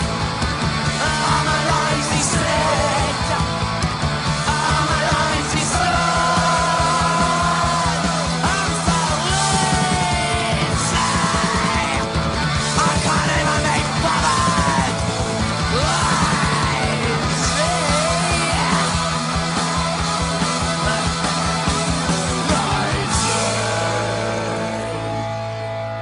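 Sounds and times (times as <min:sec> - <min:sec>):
fast driving drum beat: 0:00.0 - 0:25.7
distorted guitars: 0:00.0 - 0:26.0
yelled vocals: 0:00.0 - 0:26.0.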